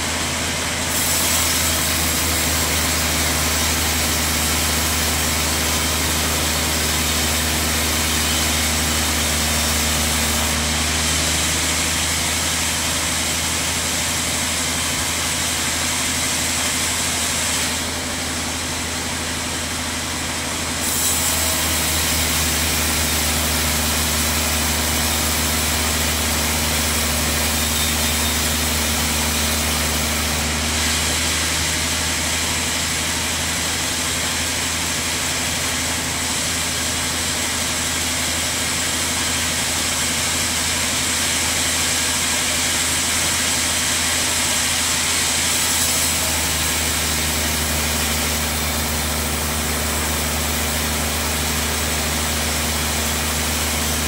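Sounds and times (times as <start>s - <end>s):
saw blade hissing through wood: 0.0s - 54.0s
sawmill motor hum: 0.0s - 54.0s.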